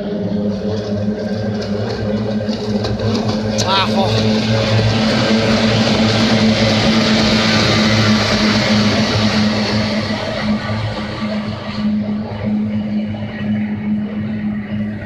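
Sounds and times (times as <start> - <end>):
racing boat outboard engines: 0.0 - 15.0.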